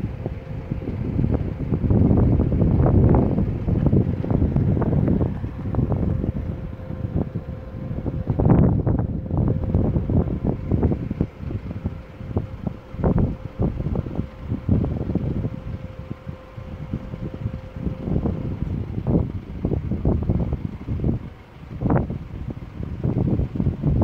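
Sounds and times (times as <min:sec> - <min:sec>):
faint steady hum: 0:00.0 - 0:24.0
wind buffeting microphone: 0:00.0 - 0:24.0.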